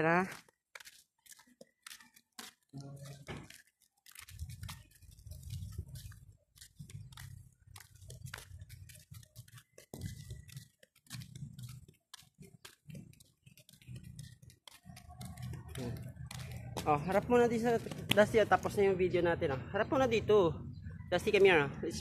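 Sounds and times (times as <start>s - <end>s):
footsteps on gritty concrete: 0.0s - 20.1s.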